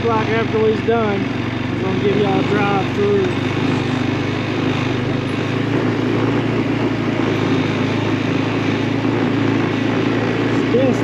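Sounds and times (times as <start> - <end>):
atv engine running: 0.0 - 11.0
ride noise on dirt trail: 0.0 - 11.0.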